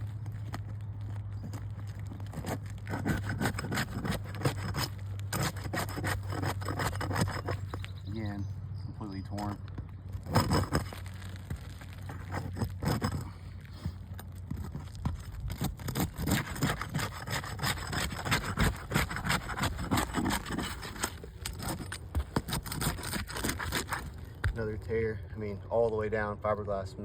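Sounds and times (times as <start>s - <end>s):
roof shingles scraping: 0.0s - 8.2s, 9.3s - 24.9s.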